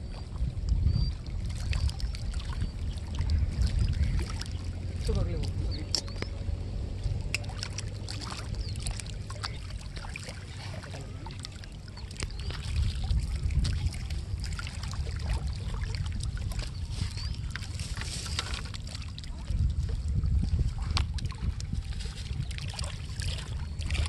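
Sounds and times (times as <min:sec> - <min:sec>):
water lapping at rocks: 0:00.0 - 0:24.0
wind rumbling on microphone: 0:00.0 - 0:24.0.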